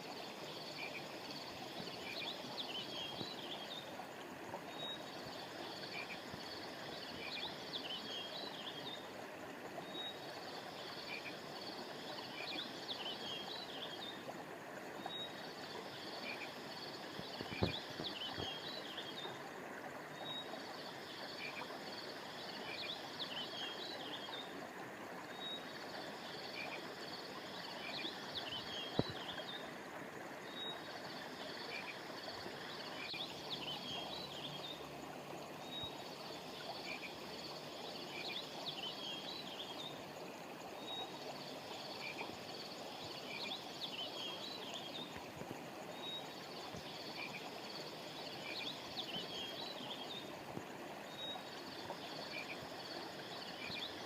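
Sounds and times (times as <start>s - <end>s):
river water running: 0.0s - 54.0s.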